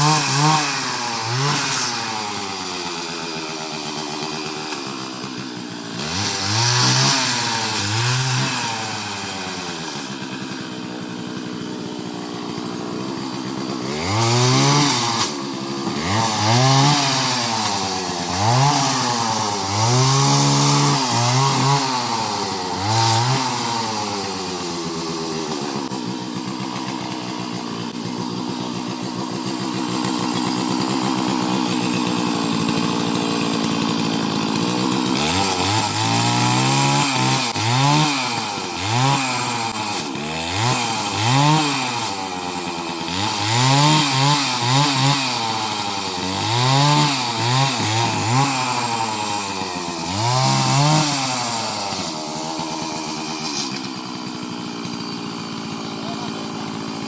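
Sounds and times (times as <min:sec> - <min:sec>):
chainsaw engine revving: 0:00.0 - 0:57.0.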